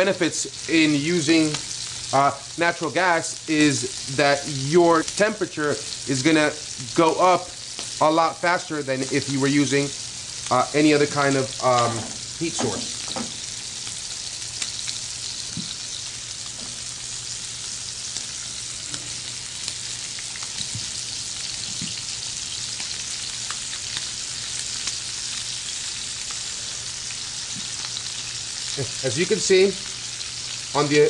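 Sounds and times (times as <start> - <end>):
scallops sizzling in a pan: 0.0 - 31.0.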